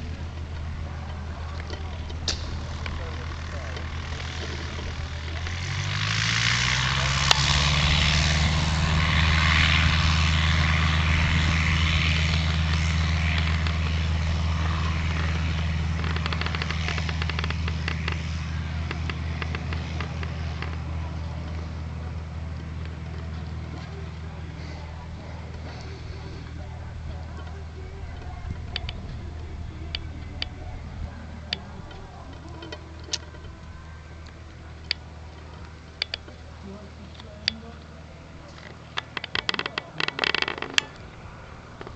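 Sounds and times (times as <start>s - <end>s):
light aircraft engine at full power: 0.0s - 41.9s.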